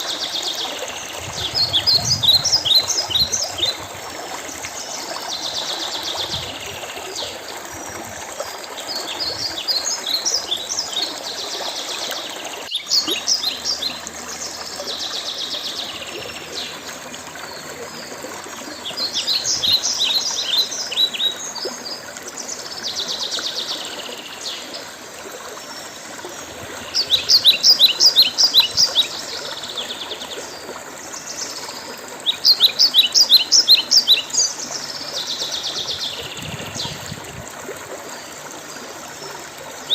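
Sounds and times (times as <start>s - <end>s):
songbirds chirping: 0.0s - 37.4s
trickle of running water: 0.0s - 39.9s.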